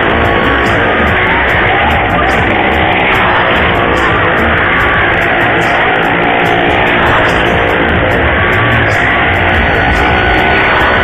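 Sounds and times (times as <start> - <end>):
loud guitar music: 0.0 - 11.0.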